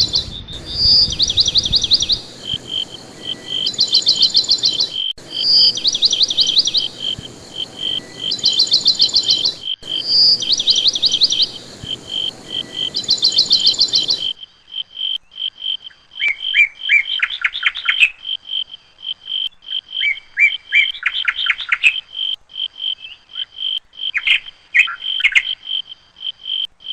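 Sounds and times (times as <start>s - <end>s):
bird with lower grouped phrases: 0.0s - 22.1s
background hiss: 0.0s - 26.9s
insects chirping: 0.0s - 26.9s
songbirds trilling: 0.0s - 26.9s.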